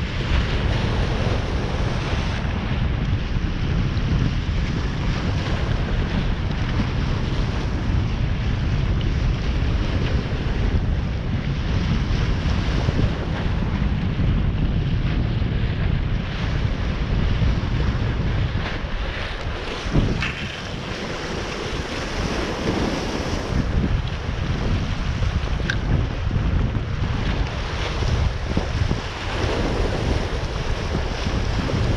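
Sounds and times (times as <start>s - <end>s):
waves rushing: 0.0s - 31.9s
wind rumbling on microphone: 0.0s - 31.9s.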